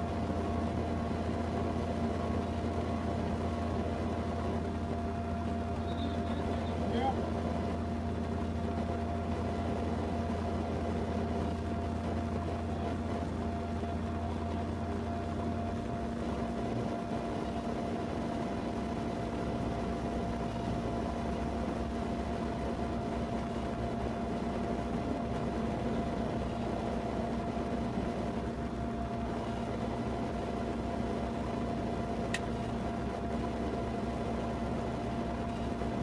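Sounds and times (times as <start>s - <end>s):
vehicle idling hum: 0.0s - 36.0s.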